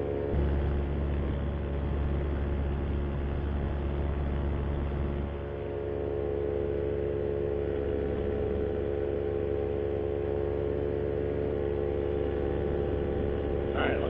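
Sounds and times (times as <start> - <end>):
paramotor engine and propeller drone: 0.0 - 14.0.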